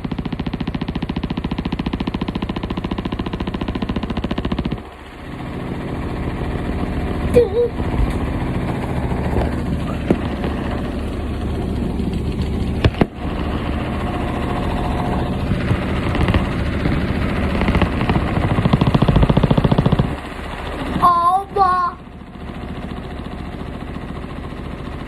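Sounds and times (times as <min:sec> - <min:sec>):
rapid loud hammering: 0:00.0 - 0:25.0
washing machine rumbling and rattling: 0:00.0 - 0:25.0.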